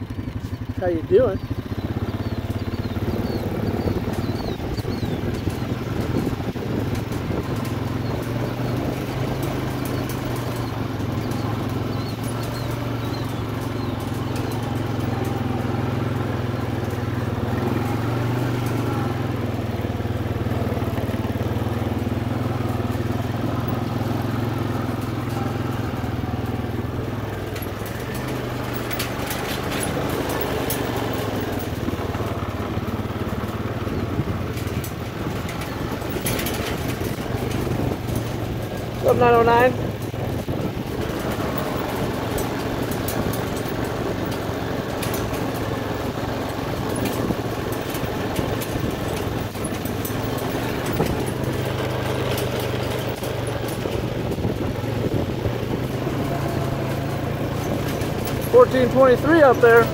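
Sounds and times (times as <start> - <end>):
farm vehicle engine running: 0.0 - 59.9
rattling: 0.1 - 59.9.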